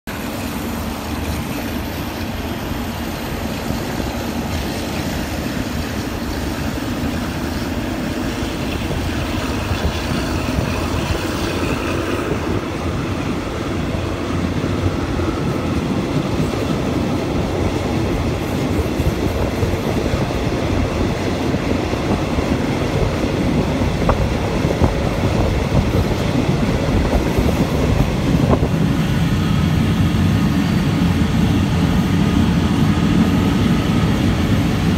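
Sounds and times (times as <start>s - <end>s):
train wheels rumbling on rails: 0.1s - 34.9s.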